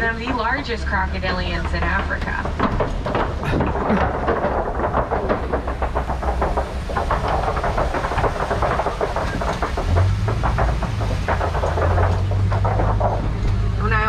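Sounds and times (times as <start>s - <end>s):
truck engine droning: 0.0s - 14.0s
vehicle rattling and clattering: 0.0s - 14.0s.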